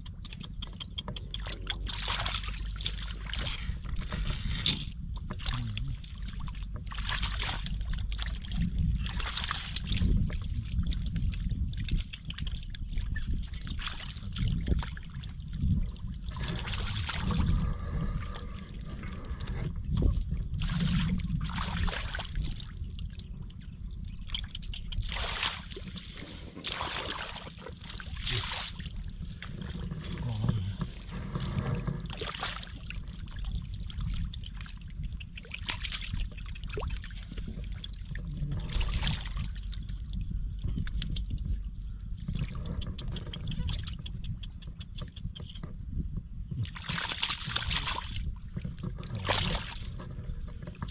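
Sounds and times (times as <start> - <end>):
low rumble: 0.0 - 50.9
water sloshing and splashing: 0.0 - 50.9.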